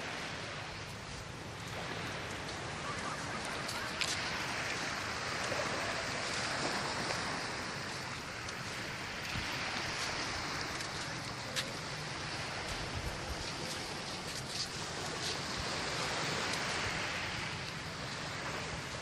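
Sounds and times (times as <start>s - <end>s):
waves washing onto beach: 0.0s - 19.0s
wind buffeting microphone: 0.0s - 19.0s.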